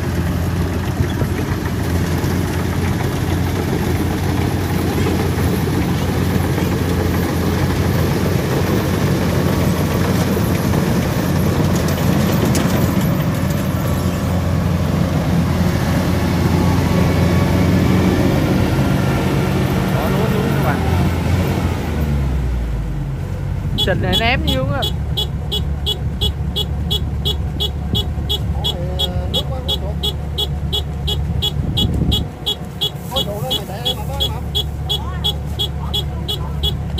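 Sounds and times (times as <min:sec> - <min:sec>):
combine harvester engine running: 0:00.0 - 0:36.9.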